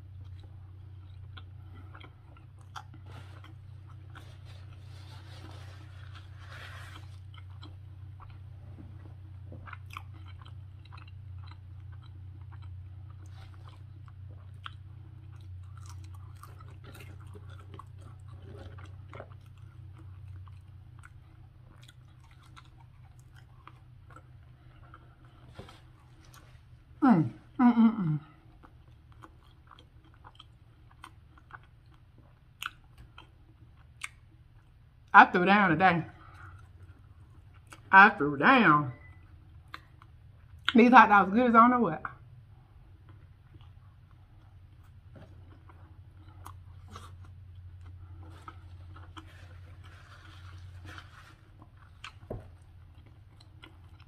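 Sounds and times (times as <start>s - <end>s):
close-up chewing: 0.0s - 35.2s, 36.1s - 38.0s, 39.0s - 40.8s, 42.1s - 54.0s
steady low hum: 0.0s - 54.0s.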